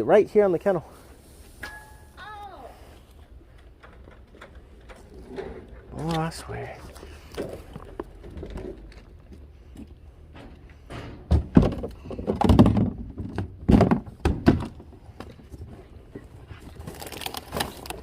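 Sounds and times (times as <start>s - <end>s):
boxes thunking and knocking: 3.6s - 18.0s.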